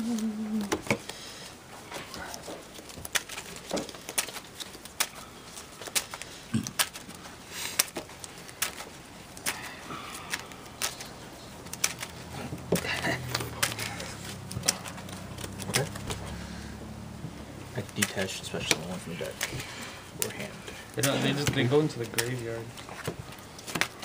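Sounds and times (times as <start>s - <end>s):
cards shuffling with clicks: 0.0s - 16.6s, 17.2s - 24.0s.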